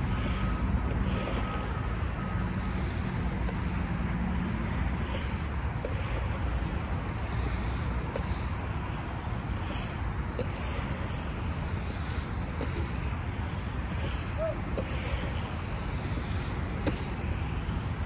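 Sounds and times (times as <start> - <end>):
skateboard wheels rolling on concrete: 0.0 - 18.0.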